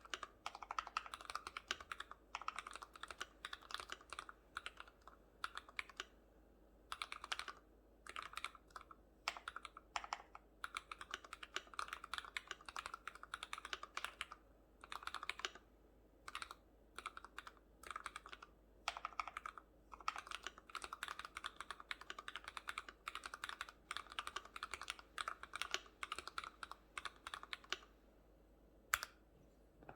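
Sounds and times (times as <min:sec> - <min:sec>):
mechanical keyboard typing: 0:00.0 - 0:06.1, 0:06.9 - 0:15.6, 0:16.3 - 0:27.9.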